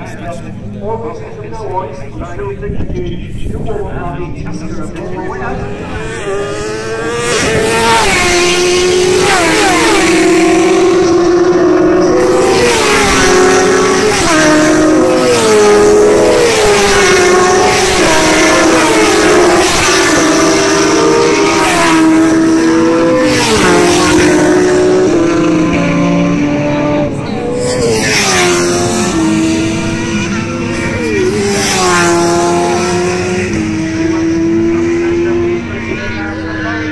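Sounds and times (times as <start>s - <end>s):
racing motorcycles passing: 3.2s - 36.9s.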